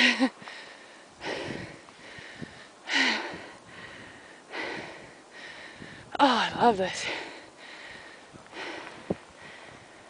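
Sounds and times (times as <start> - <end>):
person breathing hard: 0.0 - 10.0.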